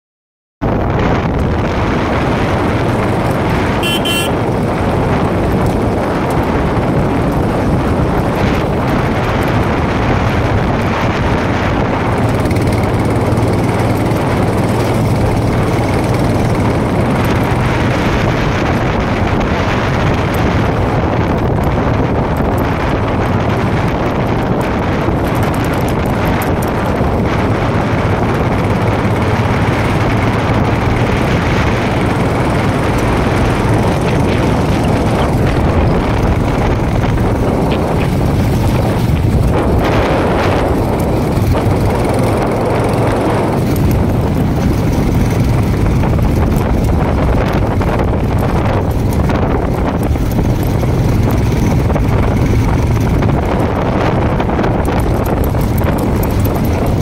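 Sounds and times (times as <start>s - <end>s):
motorcycle engine running: 0.6s - 57.0s
wind rushing over microphone: 0.6s - 57.0s.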